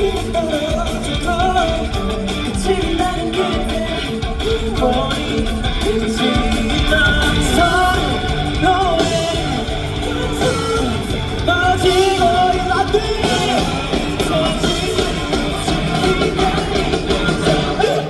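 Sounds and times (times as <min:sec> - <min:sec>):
person singing: 0:00.0 - 0:18.0
rock band playing: 0:00.0 - 0:18.0.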